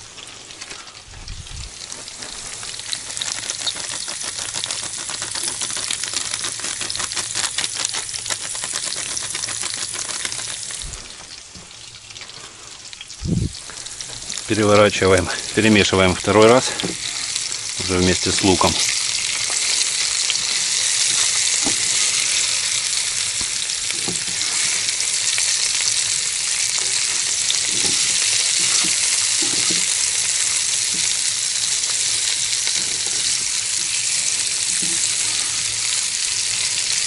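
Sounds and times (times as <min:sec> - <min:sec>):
potatoes and onions sizzling in oil: 0:00.0 - 0:37.0.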